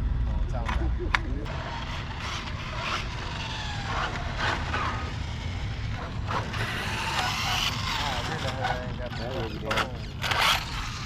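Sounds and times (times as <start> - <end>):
rc car motor whine: 1.5 - 11.0.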